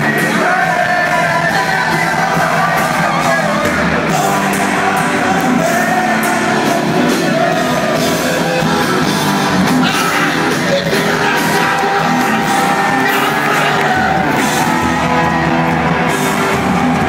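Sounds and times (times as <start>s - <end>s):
person singing: 0.0s - 15.5s
distorted electric guitar: 0.0s - 17.0s
drums: 0.0s - 17.0s.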